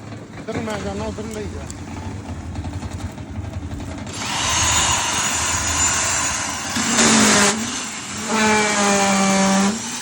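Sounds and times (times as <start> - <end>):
concrete vibrator humming: 0.0 - 10.0.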